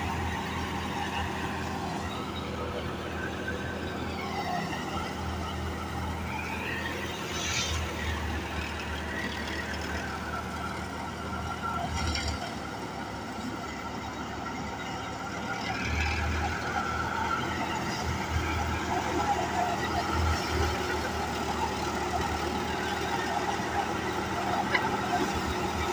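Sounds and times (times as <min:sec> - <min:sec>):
thresher and tractor engine hum: 0:00.0 - 0:25.9.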